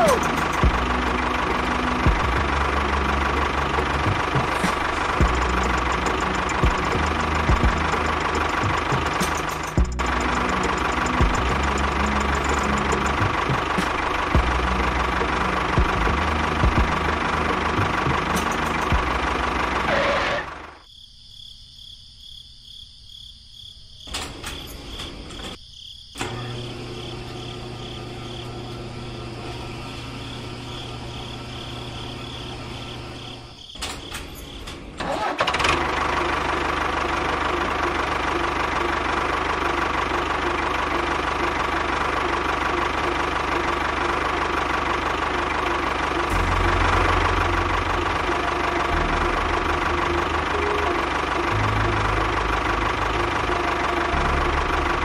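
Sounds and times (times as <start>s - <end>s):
tractor engine running: 0.0s - 20.8s, 26.2s - 55.0s.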